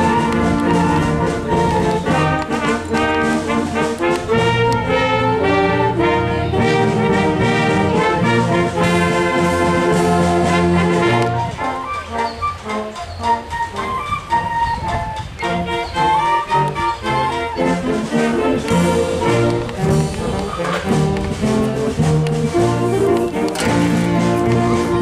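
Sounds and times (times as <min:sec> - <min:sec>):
concert band playing held chords: 0:00.0 - 0:25.0.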